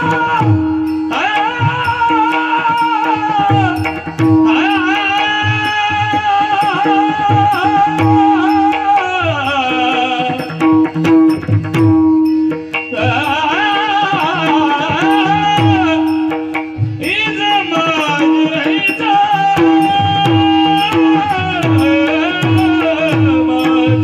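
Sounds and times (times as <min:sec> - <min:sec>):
person singing devotional song: 0:00.0 - 0:11.3, 0:12.8 - 0:24.0
tabla strokes: 0:00.0 - 0:24.0.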